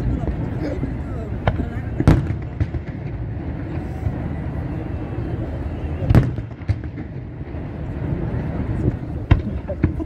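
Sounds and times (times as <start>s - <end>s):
fireworks bursting: 0.0s - 10.0s
low rumble: 0.0s - 10.0s.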